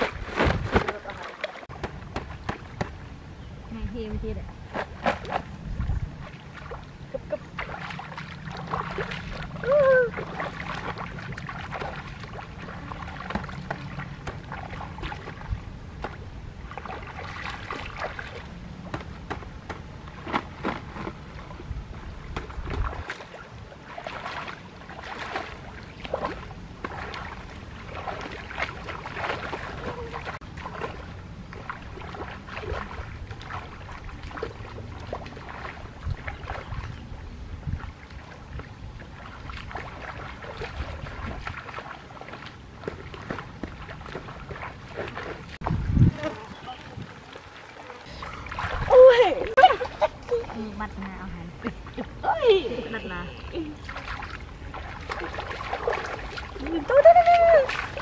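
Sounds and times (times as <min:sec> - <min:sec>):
stream water splashing: 0:00.0 - 0:58.0.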